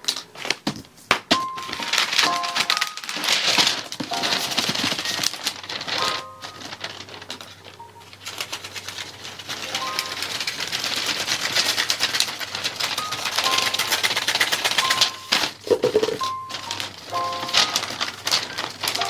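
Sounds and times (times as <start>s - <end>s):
wrapping paper rustling: 0.0s - 19.0s
scissors snipping paper: 1.3s - 19.0s
light background music: 1.4s - 10.8s, 12.2s - 19.0s.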